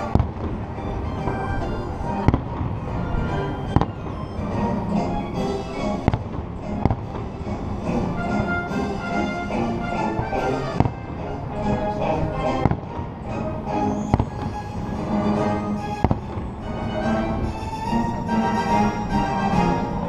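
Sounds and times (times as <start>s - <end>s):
distant fireworks bangs: 0.0s - 18.3s
music: 0.0s - 20.0s.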